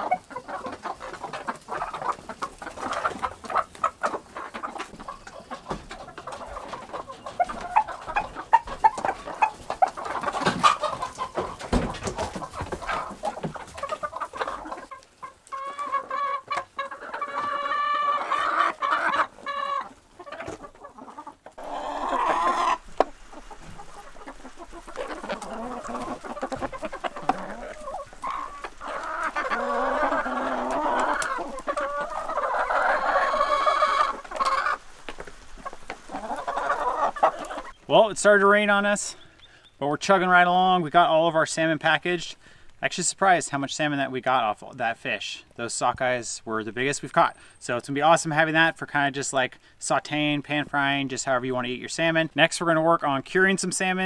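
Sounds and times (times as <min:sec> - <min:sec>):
chickens pecking taps: 0:00.0 - 0:46.2
chickens clucking and calling: 0:00.0 - 0:54.0.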